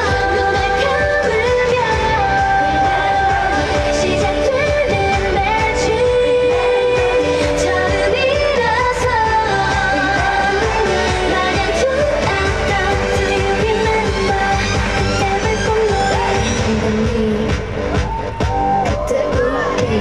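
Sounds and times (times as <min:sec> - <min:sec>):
upbeat pop backing track: 0:00.0 - 0:20.0
women singing into microphones: 0:00.0 - 0:20.0.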